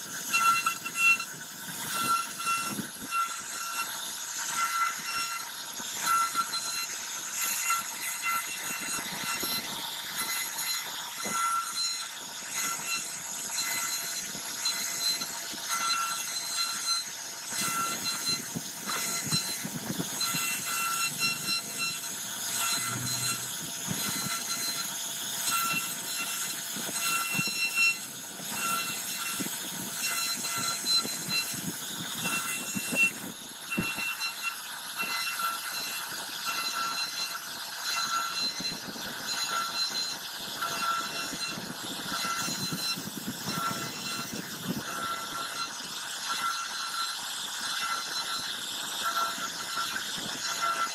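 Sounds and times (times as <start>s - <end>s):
router spindle whining: 0.0s - 50.9s.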